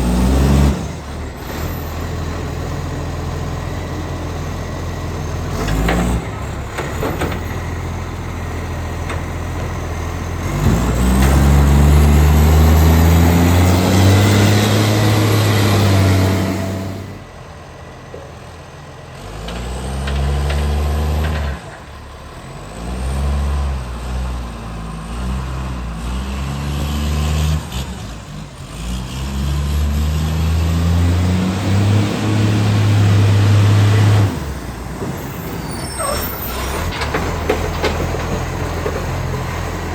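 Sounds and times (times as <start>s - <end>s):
garbage truck diesel engine revving: 0.0s - 39.9s.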